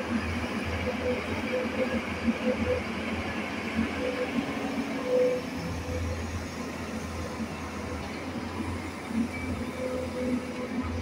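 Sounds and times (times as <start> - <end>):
excavator diesel rumble: 0.0 - 11.0.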